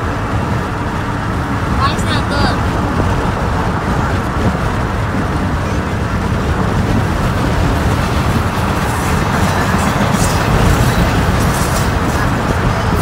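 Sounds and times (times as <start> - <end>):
road and engine noise in car: 0.0 - 13.0.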